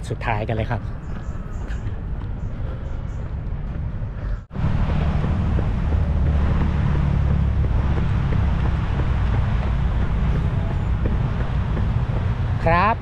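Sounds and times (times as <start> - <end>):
wind buffeting microphone: 0.7 - 13.0.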